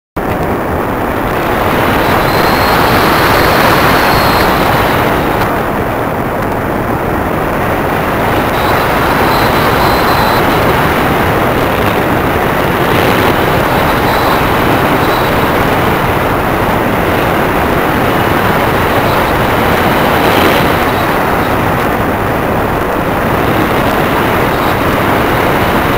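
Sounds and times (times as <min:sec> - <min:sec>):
electric propeller: 0:00.2 - 0:25.9
faint high whine: 0:00.2 - 0:25.9
rushing air: 0:00.2 - 0:25.9.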